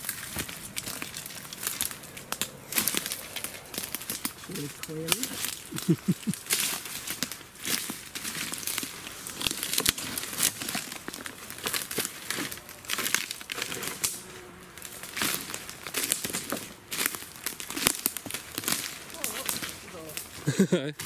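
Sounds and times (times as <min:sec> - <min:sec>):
rustling and crackling: 0:00.0 - 0:21.0.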